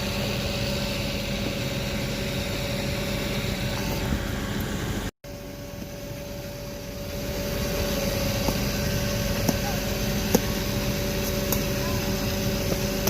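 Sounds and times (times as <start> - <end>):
tractor engine drone with whine: 0.0 - 13.0.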